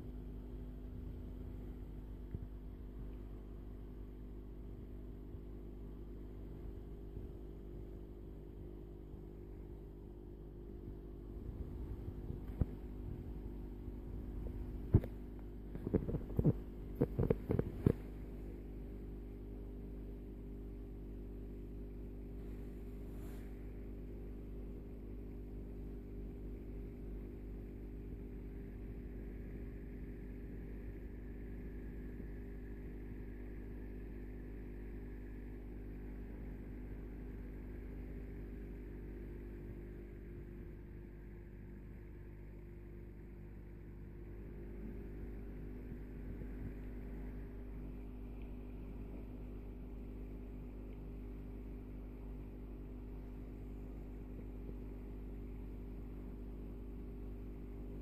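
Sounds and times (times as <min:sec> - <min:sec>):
aquarium pump humming: 0:00.0 - 0:58.0.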